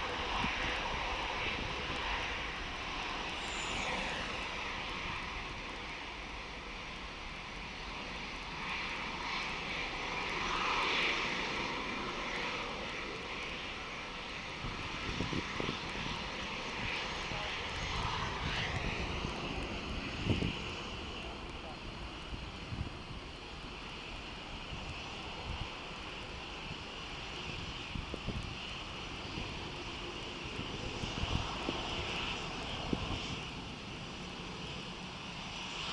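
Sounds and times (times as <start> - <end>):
wind buffeting microphone: 0.0 - 8.3, 12.9 - 35.9
distant jet engines at takeoff: 0.0 - 35.9.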